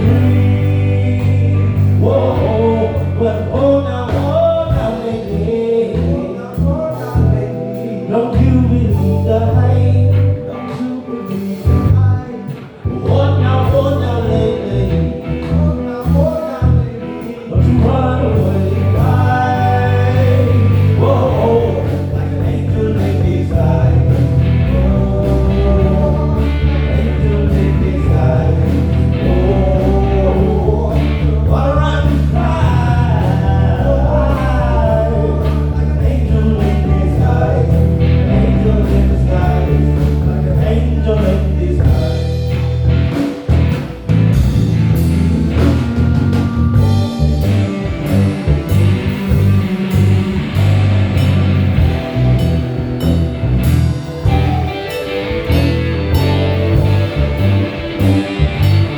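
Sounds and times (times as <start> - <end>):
drums: 0.0 - 58.9
electric bass: 0.0 - 58.9.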